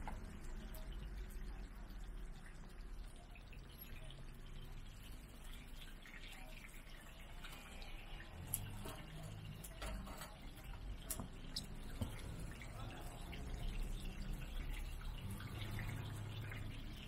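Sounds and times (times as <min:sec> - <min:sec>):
pancakes sizzling in oil: 0:00.0 - 0:17.0.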